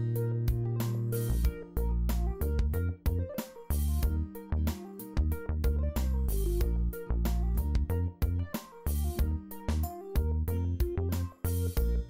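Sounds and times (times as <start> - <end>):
background music with steady beat: 0.0 - 12.0
held bass notes: 0.0 - 12.0.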